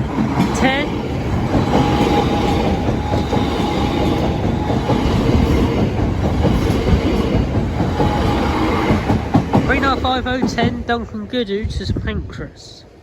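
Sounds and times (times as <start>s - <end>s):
train wheels rumbling on rails: 0.0s - 12.4s.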